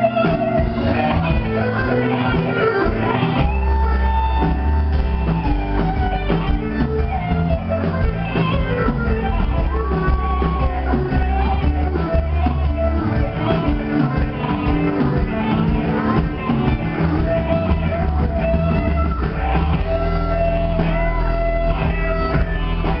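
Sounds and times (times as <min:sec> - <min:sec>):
bass guitar: 0:00.0 - 0:23.0
drums: 0:00.0 - 0:23.0
electric guitar lead with bent notes: 0:00.0 - 0:23.0.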